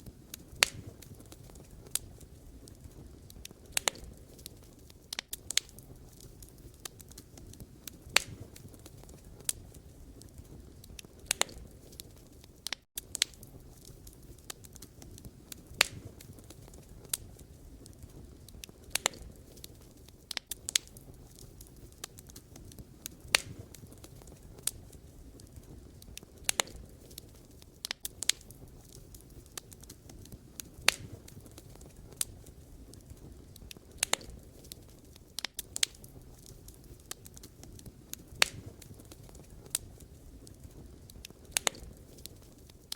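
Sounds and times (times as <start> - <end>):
burning logs crackling and popping: 0.0 - 42.9
campfire flames rumbling: 0.0 - 42.9.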